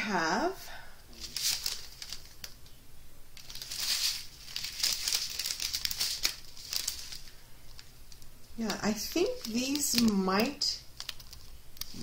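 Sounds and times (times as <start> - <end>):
plastic bags crinkling: 1.1 - 2.8, 3.4 - 12.0.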